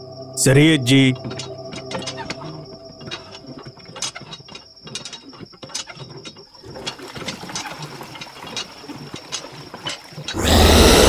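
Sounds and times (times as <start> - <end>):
hand pump handle clanking: 0.9 - 11.0
water pouring from spout: 1.2 - 11.0.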